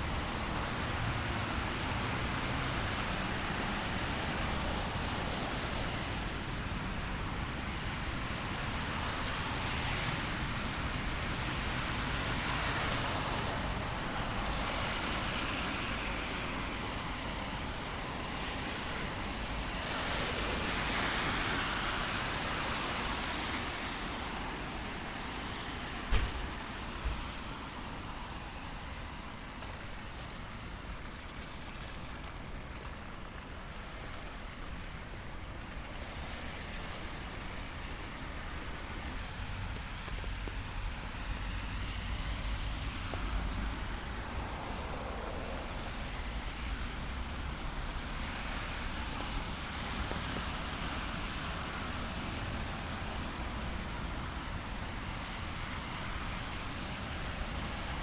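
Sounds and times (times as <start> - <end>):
cars driving on wet road: 0.0 - 58.0
low traffic rumble: 0.0 - 58.0
rain hiss: 0.0 - 58.0.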